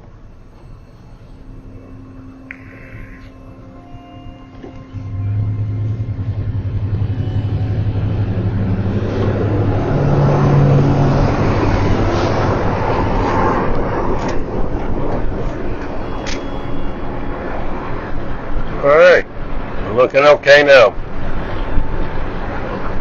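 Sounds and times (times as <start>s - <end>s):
car engine: 0.0s - 23.0s
road noise: 0.0s - 23.0s.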